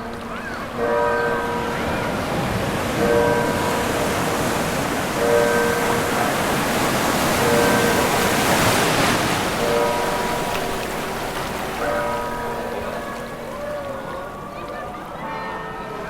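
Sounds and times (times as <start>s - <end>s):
sea waves breaking: 0.0s - 16.0s.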